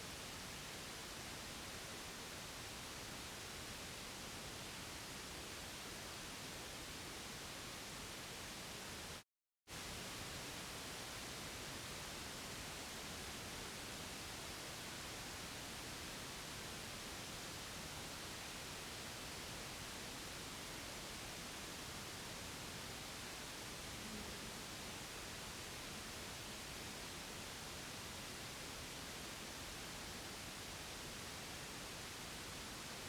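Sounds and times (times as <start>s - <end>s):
steady white noise: 0.0s - 33.0s.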